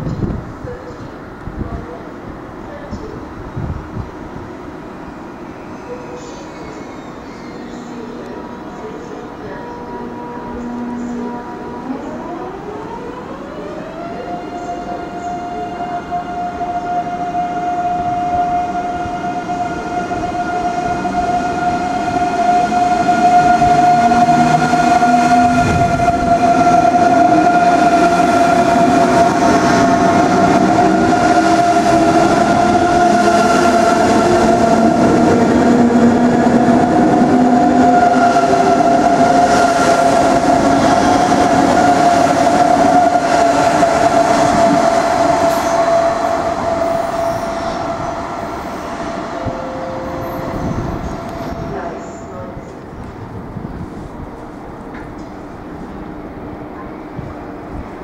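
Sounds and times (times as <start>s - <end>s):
train rumble: 6.0s - 58.0s.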